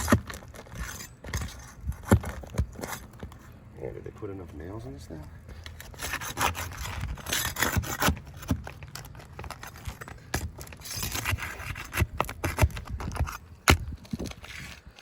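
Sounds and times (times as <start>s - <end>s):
scraping against shingles: 0.0s - 3.6s, 4.4s - 15.0s.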